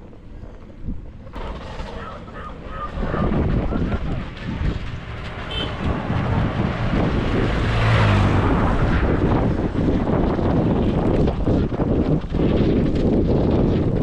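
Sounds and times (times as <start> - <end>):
wind buffeting microphone: 0.0 - 14.0
motor vehicle passing: 1.2 - 13.7.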